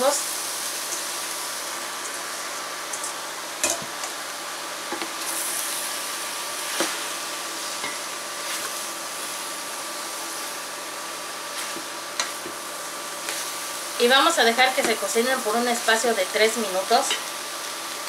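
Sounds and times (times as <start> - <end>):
mushrooms sizzling in a pot: 0.0 - 18.0.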